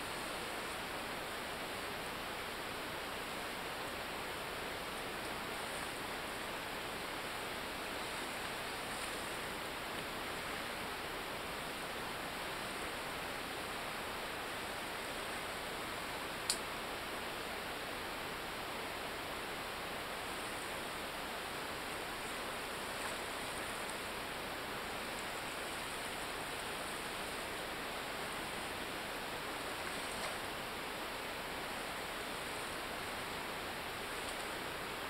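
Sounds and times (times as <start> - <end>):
surf washing on beach: 0.0 - 35.0.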